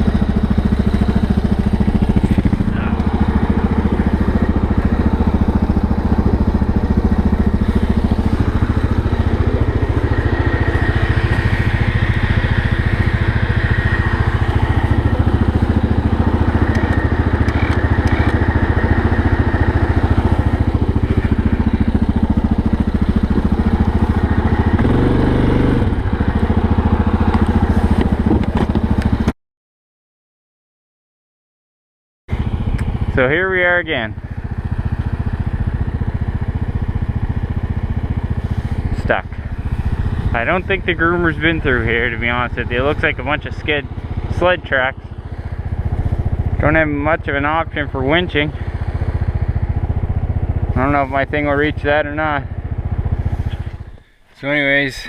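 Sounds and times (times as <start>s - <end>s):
atv engine running: 0.0s - 29.3s, 32.3s - 55.0s.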